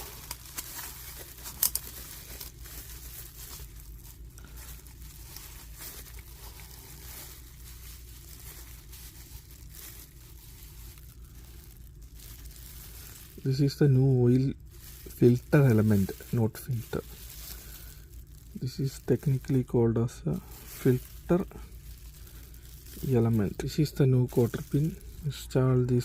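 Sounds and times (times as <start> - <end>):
small parts rustling and crinkling: 0.0 - 26.0.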